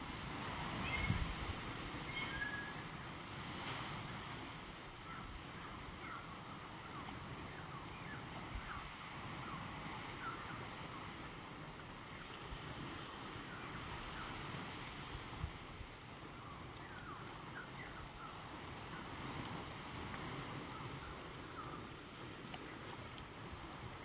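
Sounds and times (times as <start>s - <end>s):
gentle surf: 0.0s - 24.0s
wind: 0.0s - 24.0s
wind buffeting microphone: 0.0s - 24.0s.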